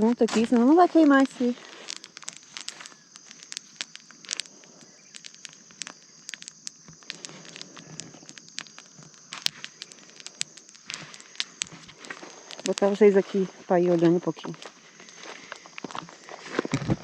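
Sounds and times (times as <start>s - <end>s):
fire crackling and popping: 0.0s - 17.0s
insects chirring: 0.0s - 17.0s.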